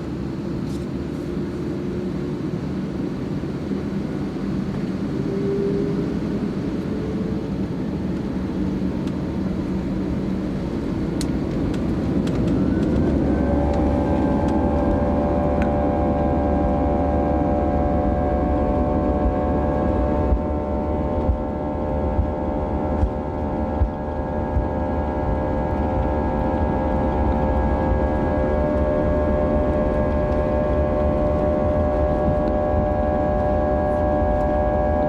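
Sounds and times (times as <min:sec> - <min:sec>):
jet engine rumble: 0:00.0 - 0:35.0
jet engine whine: 0:00.0 - 0:35.0.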